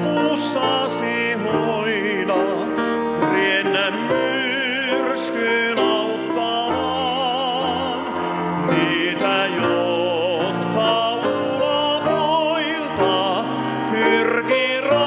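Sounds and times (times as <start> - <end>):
grand piano: 0.0 - 15.0
man singing classical: 0.0 - 15.0.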